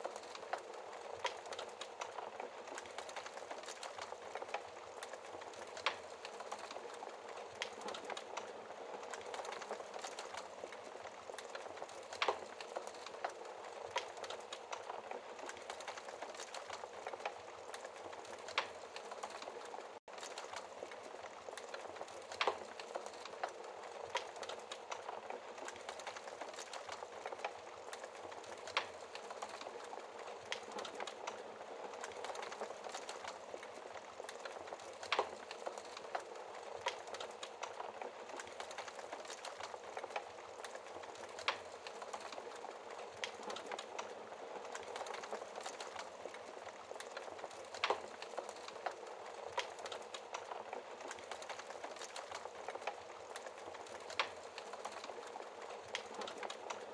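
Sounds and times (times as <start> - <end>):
fire popping: 0.0 - 56.9
wood fire crackling: 0.0 - 56.9.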